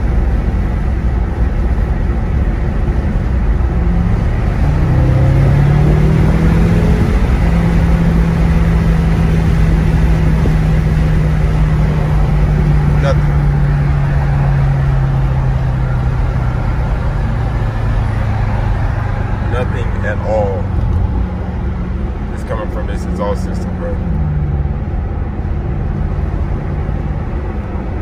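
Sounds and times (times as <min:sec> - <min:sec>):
car engine drone: 0:00.0 - 0:28.0
road rumble: 0:00.0 - 0:28.0.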